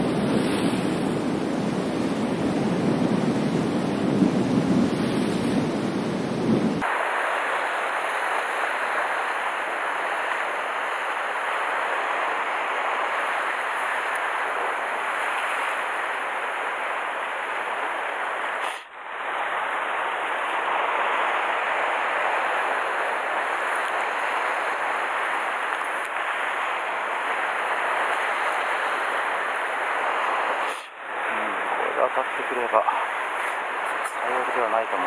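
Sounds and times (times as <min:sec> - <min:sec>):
surf on rocky shore: 0:00.0 - 0:35.0.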